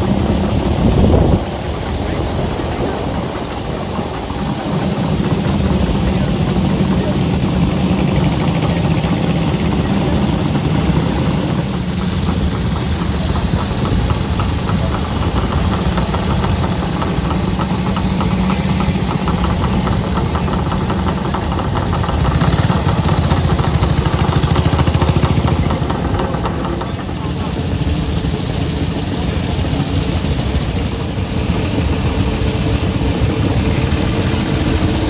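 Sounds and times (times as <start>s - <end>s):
motorcycle engines idling: 0.0s - 35.0s
motorcycles passing close by: 0.0s - 35.0s.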